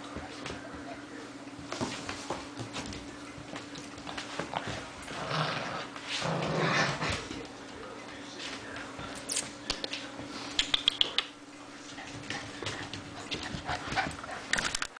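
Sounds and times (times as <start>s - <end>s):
puppies scuffling: 0.0s - 14.9s.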